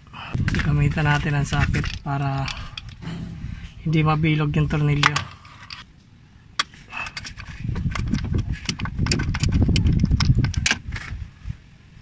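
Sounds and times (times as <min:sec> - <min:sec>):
low rumbling handling noise: 0:00.0 - 0:10.7.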